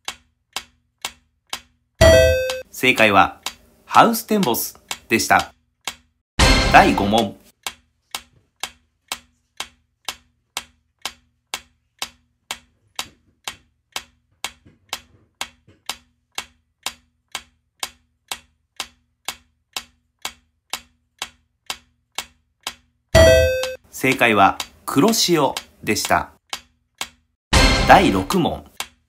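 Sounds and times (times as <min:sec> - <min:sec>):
clock-like timer ticks: 0:00.0 - 0:29.0.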